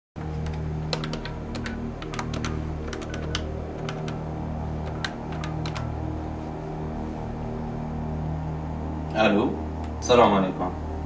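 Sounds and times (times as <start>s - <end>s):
steady low hum: 0.2s - 11.0s.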